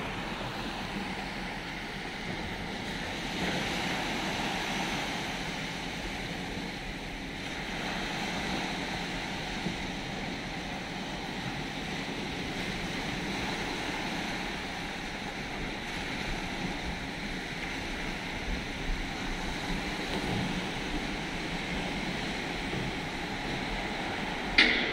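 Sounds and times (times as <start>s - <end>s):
waves washing onto rocky shore: 0.0s - 24.8s.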